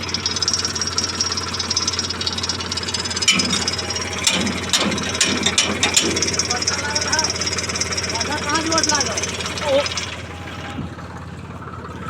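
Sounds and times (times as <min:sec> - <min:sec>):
sharp metallic knocks: 0:00.0 - 0:10.8
tractor diesel engine idling: 0:00.0 - 0:12.0.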